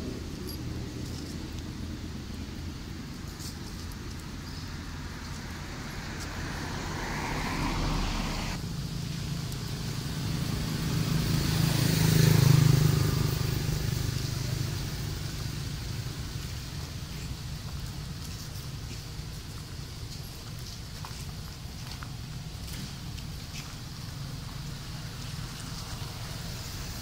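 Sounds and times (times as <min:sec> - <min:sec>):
vehicle passing on road: 0:00.0 - 0:27.0.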